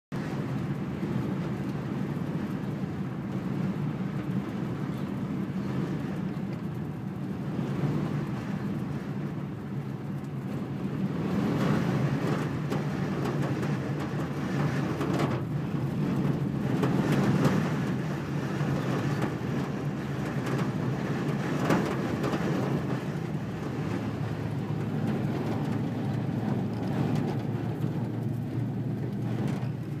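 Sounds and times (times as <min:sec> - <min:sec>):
strong wind gusting: 0:00.2 - 0:30.0.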